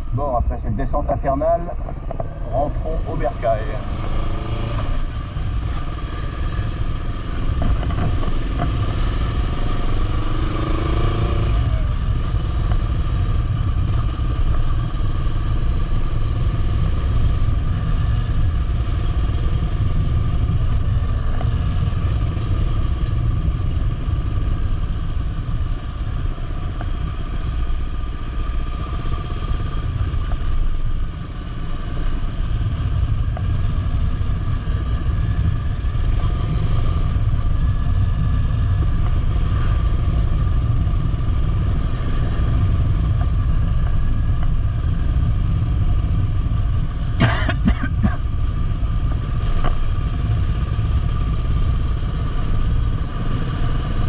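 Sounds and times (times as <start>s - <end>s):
motorcycle engine accelerating: 1.2s - 54.0s.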